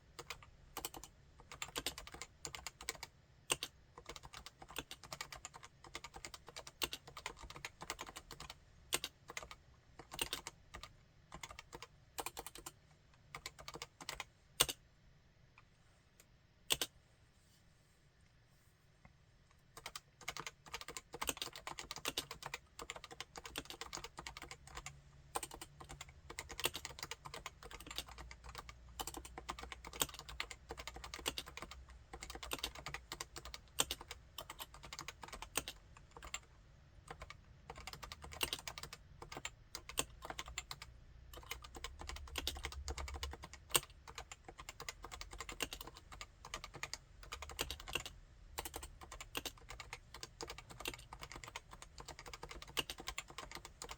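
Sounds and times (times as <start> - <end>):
keyboard typing: 0.2 - 14.8, 16.7 - 16.9, 19.8 - 36.5, 37.1 - 53.9.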